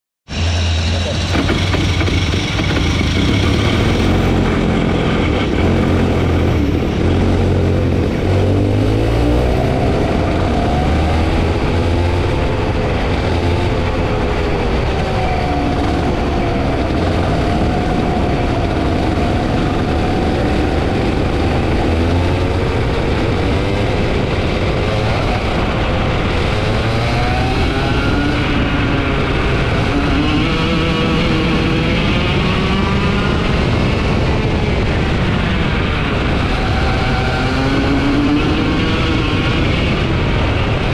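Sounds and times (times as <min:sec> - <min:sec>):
kart engine revving: 0:00.3 - 0:40.9.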